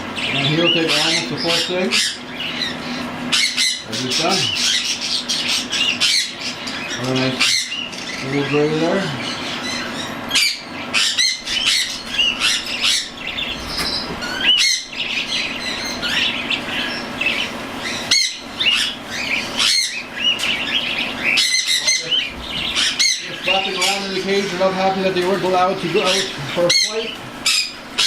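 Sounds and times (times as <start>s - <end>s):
cockatiel chicks chirping: 0.0s - 28.0s.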